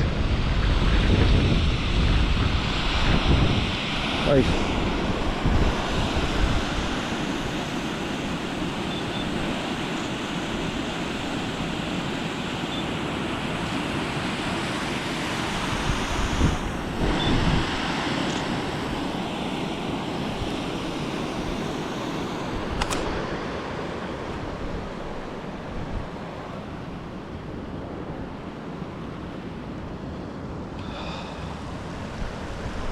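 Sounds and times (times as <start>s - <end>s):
wind buffeting microphone: 0.0s - 30.7s, 31.4s - 32.9s.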